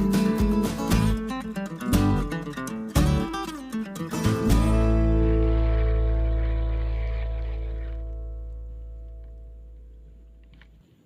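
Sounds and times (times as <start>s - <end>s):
acoustic guitar music: 0.0s - 10.8s.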